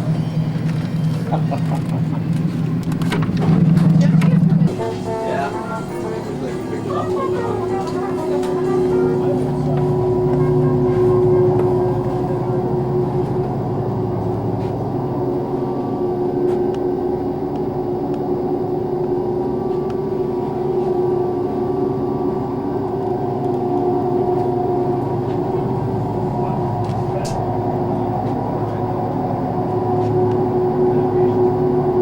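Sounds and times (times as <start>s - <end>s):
boat engine drone: 0.0s - 32.0s
steady tone: 4.7s - 32.0s.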